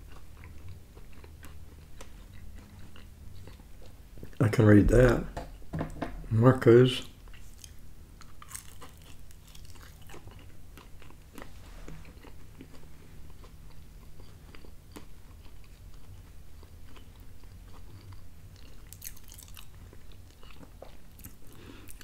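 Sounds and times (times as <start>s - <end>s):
person biting and chewing pizza: 0.0s - 4.4s, 7.2s - 22.0s.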